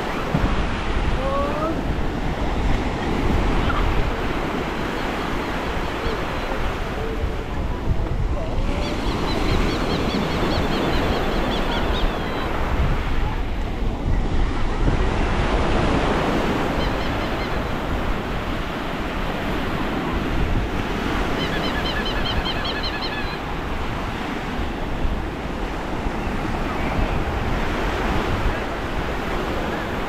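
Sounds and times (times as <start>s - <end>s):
surf washing onto beach: 0.0s - 22.3s, 23.1s - 30.0s
wind on microphone: 0.0s - 30.0s.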